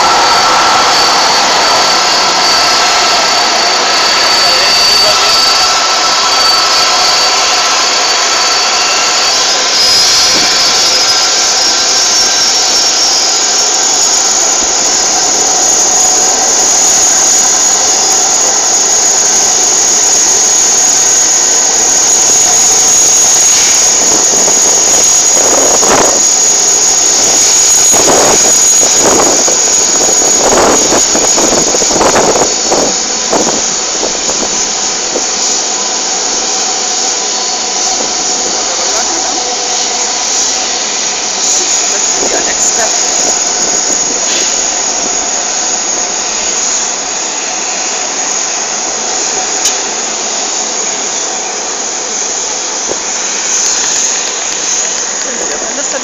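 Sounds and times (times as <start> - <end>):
jet engines whining: 0.0 - 56.0
rushing surges: 0.0 - 56.0.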